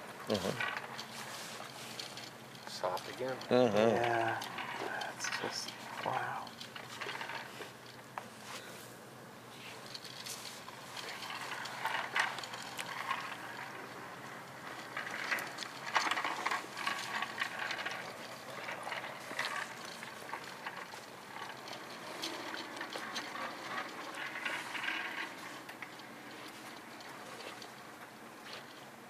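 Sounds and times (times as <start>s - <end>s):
rustling and handling noise: 0.0s - 29.0s.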